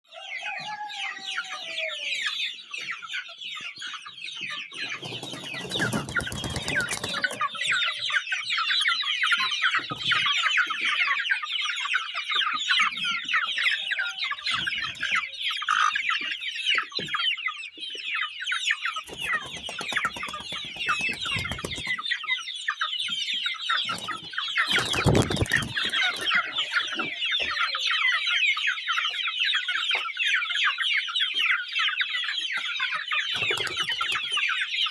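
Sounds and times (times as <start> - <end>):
chicks cheeping: 0.0 - 34.9.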